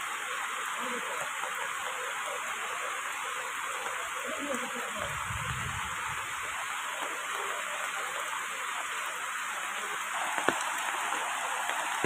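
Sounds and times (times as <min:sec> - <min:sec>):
rain falling on foliage: 0:00.0 - 0:12.0.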